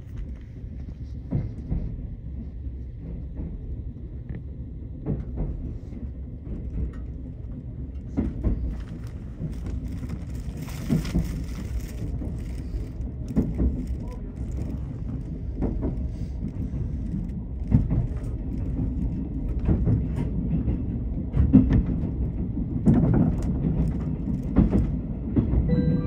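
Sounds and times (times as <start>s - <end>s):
train cabin low rumble: 0.0s - 26.0s.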